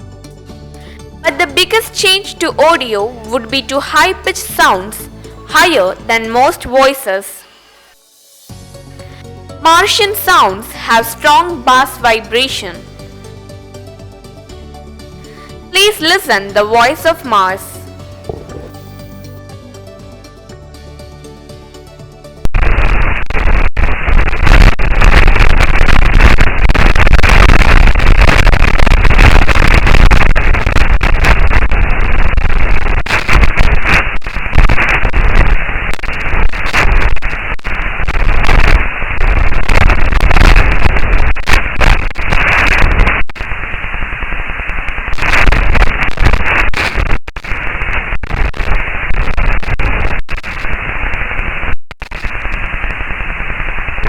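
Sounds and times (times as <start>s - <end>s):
dense crackling noise: 0.8s - 14.5s, 15.1s - 19.4s, 22.4s - 54.0s.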